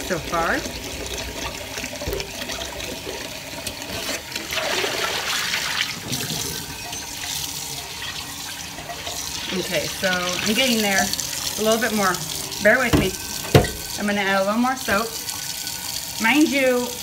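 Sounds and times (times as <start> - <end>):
water pouring and splashing into sink: 0.0 - 17.0.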